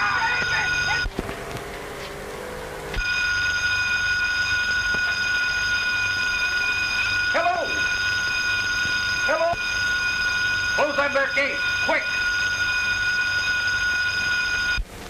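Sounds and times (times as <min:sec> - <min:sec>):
burglar alarm ringing: 0:00.0 - 0:01.1, 0:03.0 - 0:14.8.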